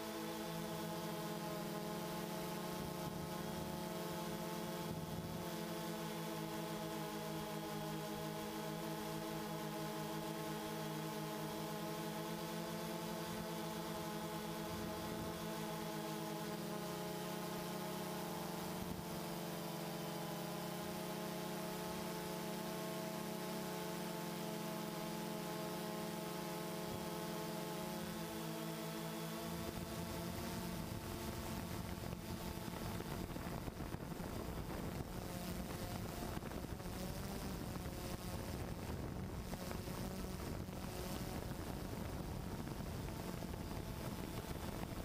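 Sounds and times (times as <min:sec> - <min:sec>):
drone propellers humming: 0:00.0 - 0:45.0.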